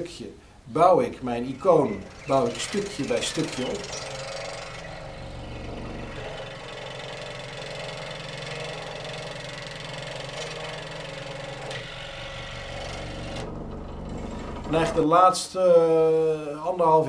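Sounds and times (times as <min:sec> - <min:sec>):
machine motor humming: 0:01.4 - 0:15.1.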